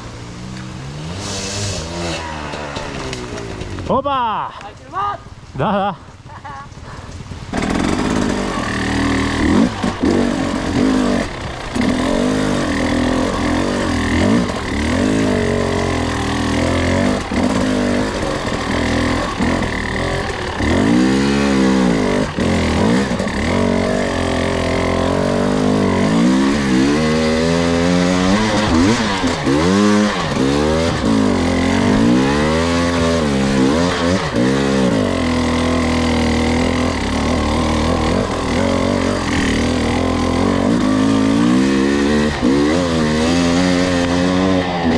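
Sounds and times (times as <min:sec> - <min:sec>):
dirt bike engine revving: 0:00.0 - 0:04.2, 0:07.2 - 0:44.9.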